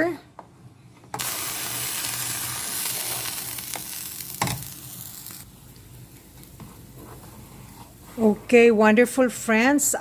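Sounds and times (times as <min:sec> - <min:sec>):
brine boiling in a pot: 0:01.2 - 0:09.9.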